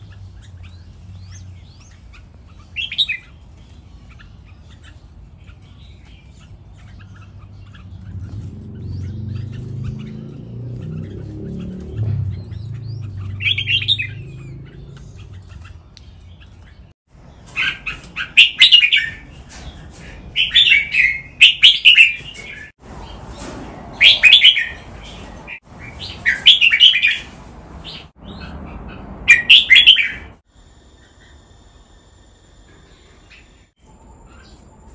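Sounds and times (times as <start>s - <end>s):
bird singing warbled song: 0.0s - 30.4s, 32.7s - 34.9s.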